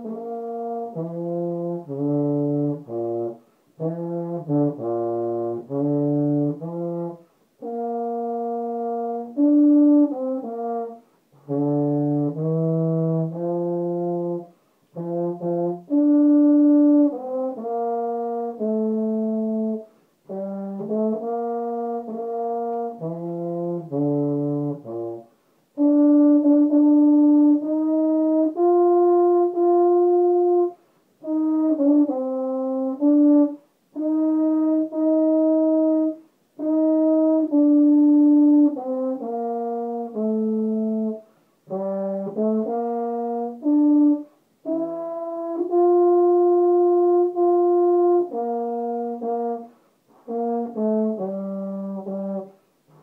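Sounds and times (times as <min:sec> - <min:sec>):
baritone horn playing anthem: 0:00.0 - 0:53.0.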